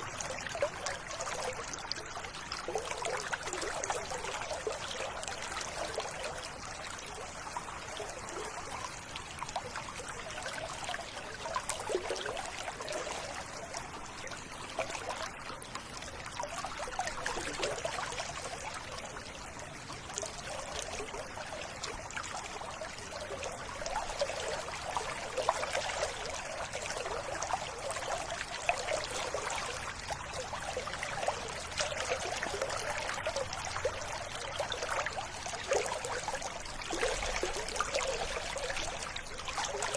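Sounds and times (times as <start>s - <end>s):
river water running and trickling: 0.0s - 39.9s.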